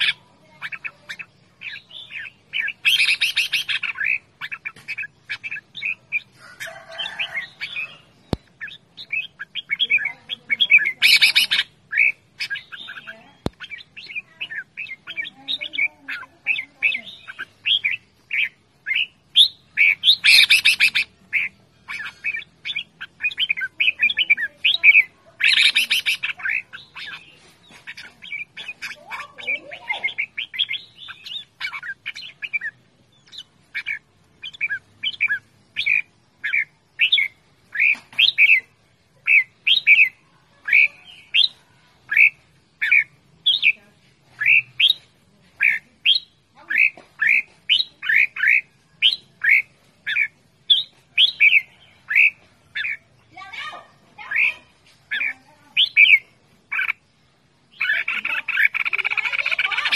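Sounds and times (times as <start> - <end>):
bird calling: 0.0 - 57.1, 57.7 - 59.9.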